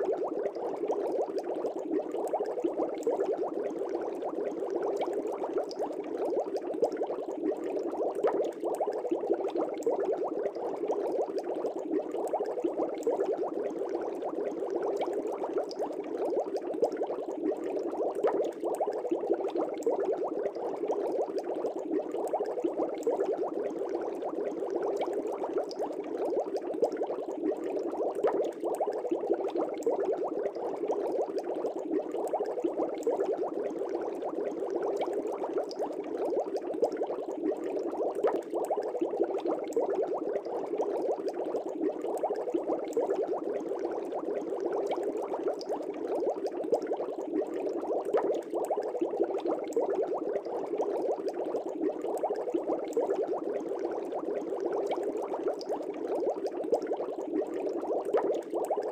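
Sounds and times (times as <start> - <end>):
aquarium bubbling: 0.0 - 58.9.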